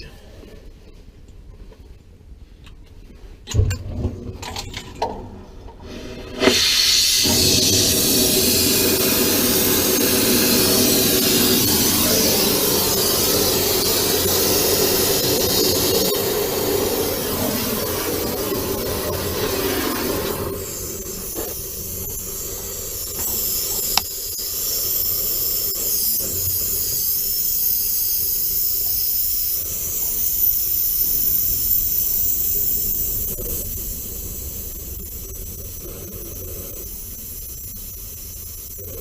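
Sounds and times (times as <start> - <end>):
cutting torch hissing: 5.9 - 39.0.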